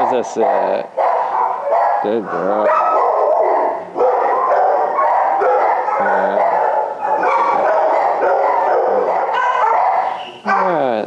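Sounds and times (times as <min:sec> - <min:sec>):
dogs barking and yipping: 0:00.0 - 0:10.9.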